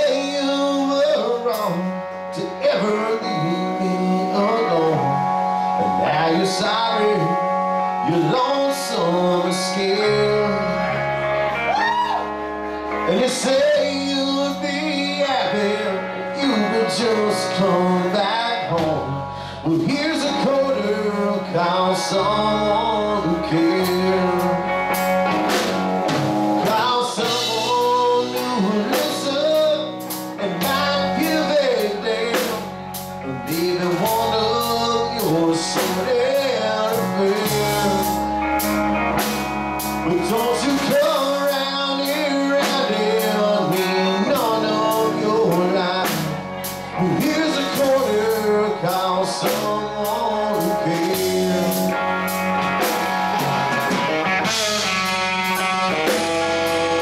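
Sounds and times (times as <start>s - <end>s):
drum kit: 0.0s - 5.2s, 8.3s - 57.0s
bass guitar: 0.0s - 57.0s
electric guitar lead: 0.0s - 57.0s.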